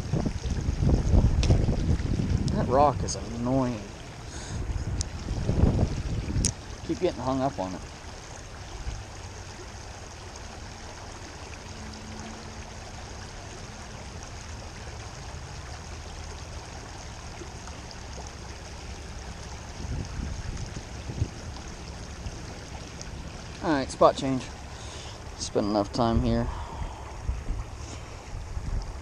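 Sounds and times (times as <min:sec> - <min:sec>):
river water rippling over rocks: 0:00.0 - 0:29.0.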